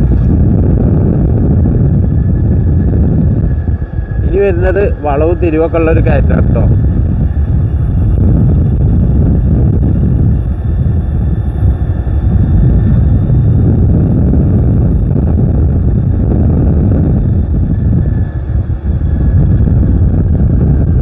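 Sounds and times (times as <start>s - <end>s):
tyre and road noise: 0.0s - 21.0s
wind buffeting microphone: 0.0s - 21.0s.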